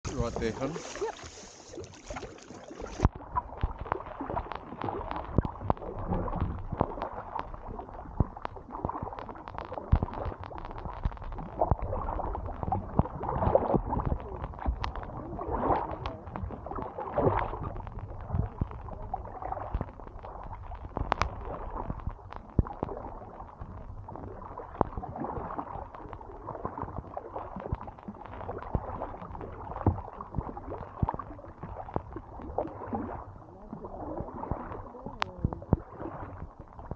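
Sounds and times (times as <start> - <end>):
water lapping against kayak hull: 0.0 - 36.9
paddle knocks and splashes: 0.1 - 36.9.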